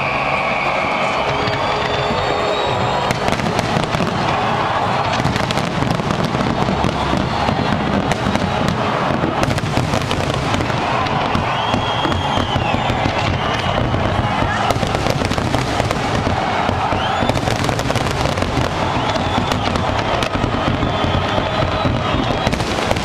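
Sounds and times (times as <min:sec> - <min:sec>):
fireworks bursting and crackling: 0:00.0 - 0:23.0.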